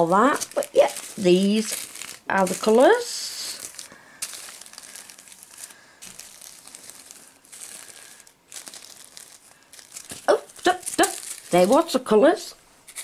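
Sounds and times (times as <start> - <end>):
plastic bags crinkling: 0.0 - 12.2.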